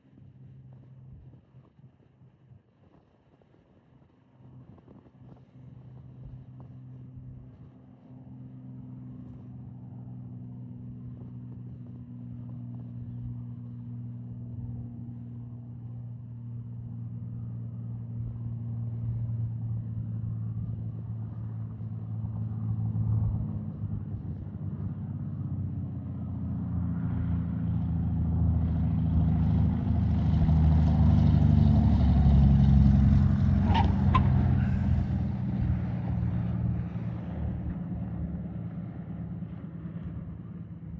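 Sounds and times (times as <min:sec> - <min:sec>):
propeller airplane engine drone: 0:00.0 - 0:40.9.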